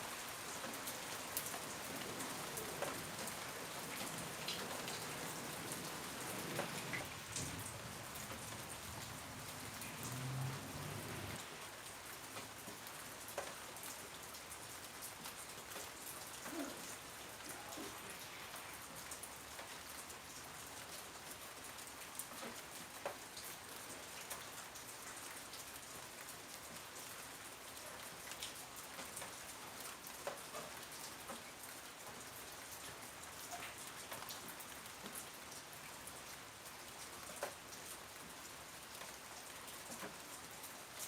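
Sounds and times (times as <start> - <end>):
rain hiss: 0.0 - 41.0.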